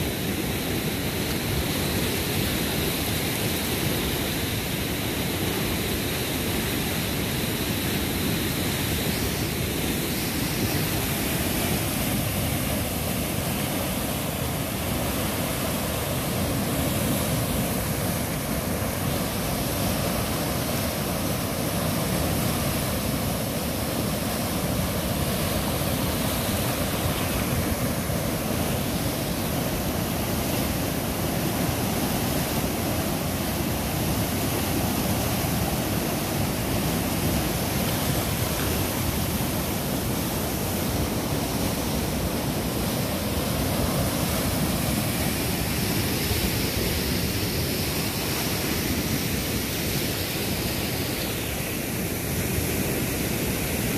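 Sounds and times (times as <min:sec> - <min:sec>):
floodwater rushing and churning: 0:00.0 - 0:53.9.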